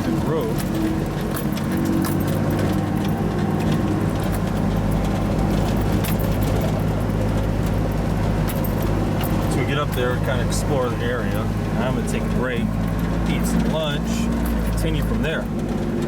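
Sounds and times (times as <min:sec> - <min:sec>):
car engine running: 0:00.0 - 0:16.0
light clicks and rattles: 0:00.0 - 0:16.0.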